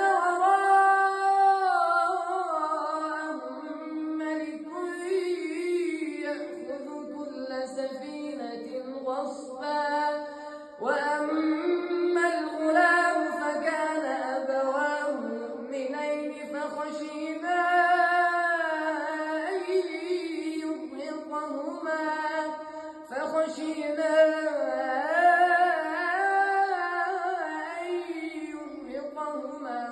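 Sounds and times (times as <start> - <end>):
high voice chanting: 0.0 - 29.9.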